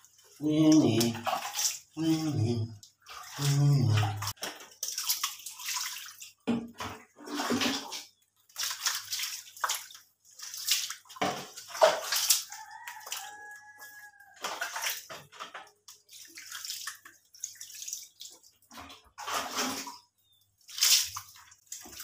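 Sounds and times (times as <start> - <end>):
water pouring and splashing on tiles: 0.0 - 22.0.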